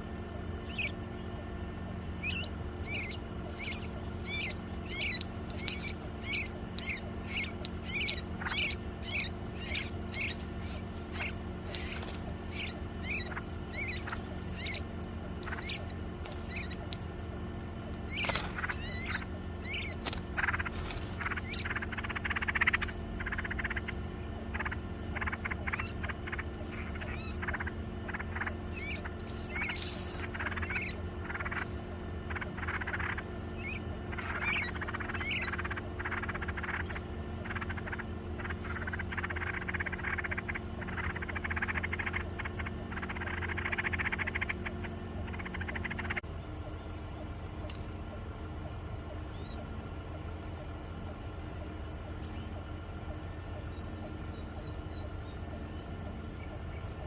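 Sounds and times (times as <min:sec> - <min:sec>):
nestlings chirping and begging: 0:00.0 - 0:57.0
steady hum: 0:00.0 - 0:57.0.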